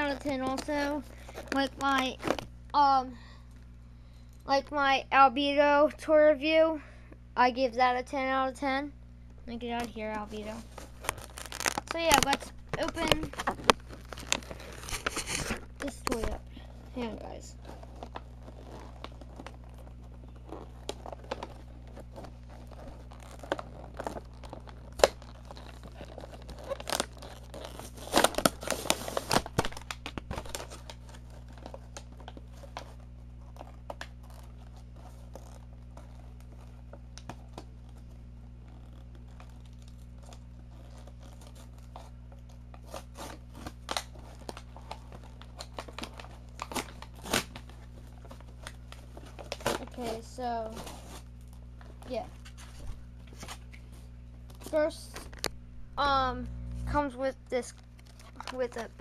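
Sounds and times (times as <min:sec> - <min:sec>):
packaging tearing and crinkling: 0:00.0 - 0:02.6, 0:09.9 - 0:55.6, 0:57.5 - 0:59.0
steady low hum: 0:00.0 - 0:59.0.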